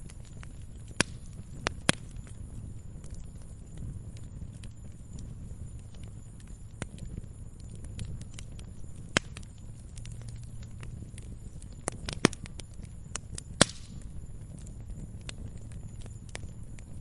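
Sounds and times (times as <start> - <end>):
fire popping: 0.0 - 17.0
wood fire crackling: 0.0 - 17.0.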